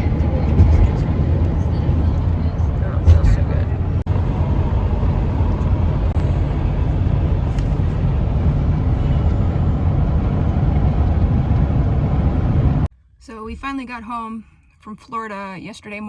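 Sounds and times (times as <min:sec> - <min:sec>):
van engine and road rumble: 0:00.0 - 0:14.3.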